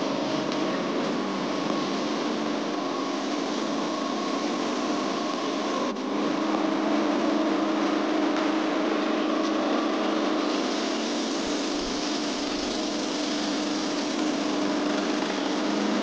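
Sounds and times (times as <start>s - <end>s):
concrete mixer engine running: 0.0s - 16.0s.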